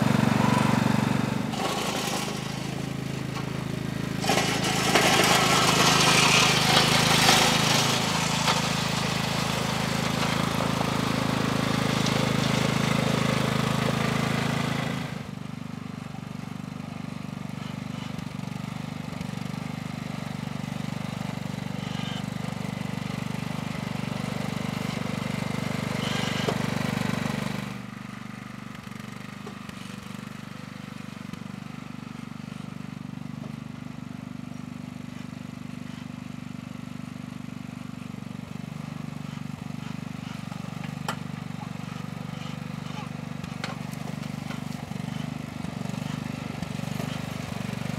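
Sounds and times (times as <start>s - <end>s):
lawn tractor engine running: 0.0s - 47.9s.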